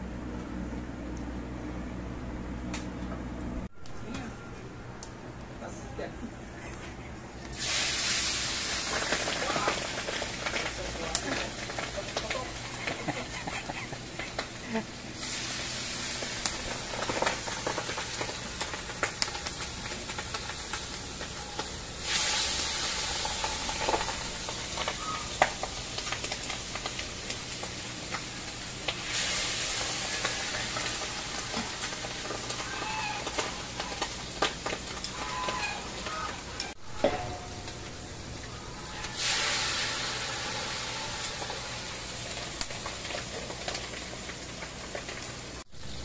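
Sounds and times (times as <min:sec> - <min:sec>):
wood fire crackling: 0:00.0 - 0:46.0
meat sizzling in a wok: 0:07.4 - 0:46.0.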